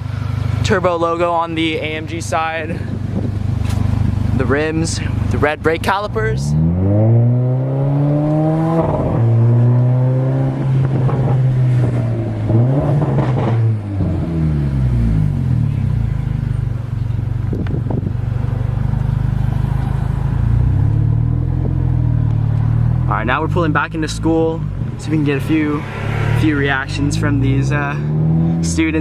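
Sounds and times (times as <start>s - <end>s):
car engine running loud: 0.0s - 29.0s.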